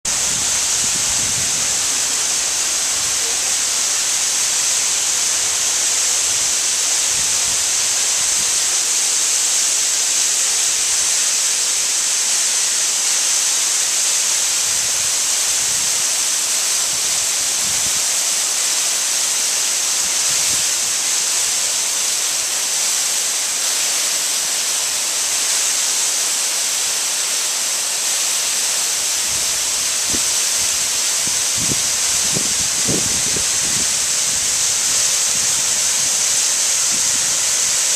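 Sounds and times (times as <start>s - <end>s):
waterfall splashing on stone: 0.1s - 37.9s.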